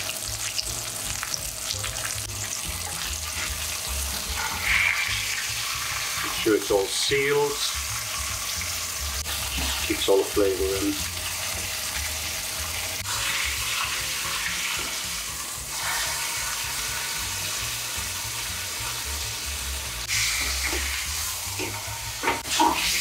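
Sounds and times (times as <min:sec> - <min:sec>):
meat sizzling in frying pan: 0:00.0 - 0:23.0.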